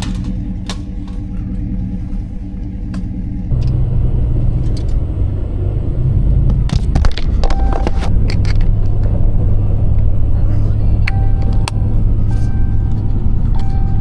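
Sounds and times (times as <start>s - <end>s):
engine low rumble from inside cab: 0.0s - 14.0s.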